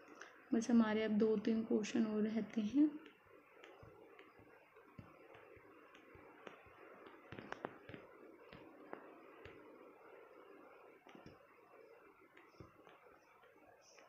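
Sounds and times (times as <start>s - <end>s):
soft clicks and taps: 2.4s - 14.0s.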